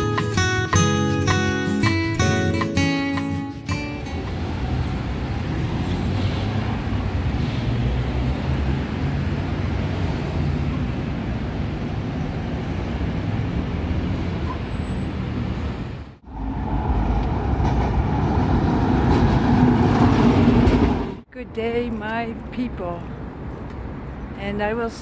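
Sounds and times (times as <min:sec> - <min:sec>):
road traffic rumble: 0:00.0 - 0:25.0
tram passing hum: 0:00.0 - 0:25.0.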